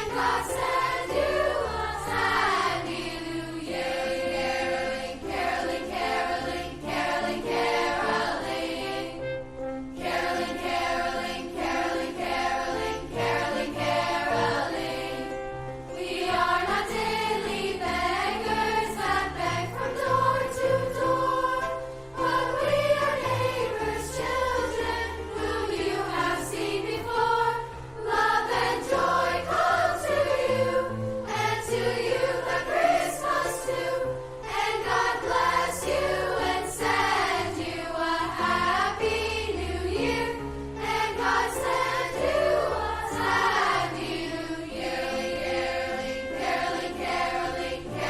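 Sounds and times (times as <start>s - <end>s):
choir singing: 0.0s - 48.0s.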